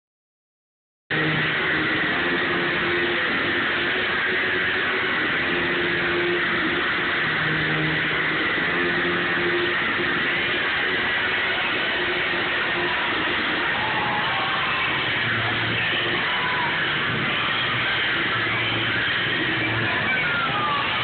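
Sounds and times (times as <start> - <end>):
distorted entrance music over pa: 1.1 - 21.0.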